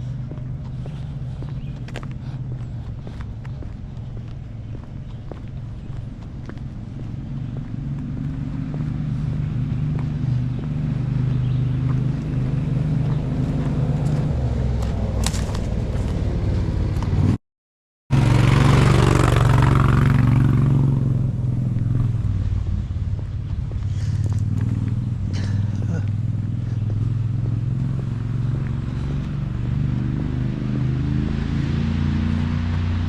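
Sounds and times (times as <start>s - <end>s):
motor engine running: 0.0s - 17.3s, 18.1s - 31.1s.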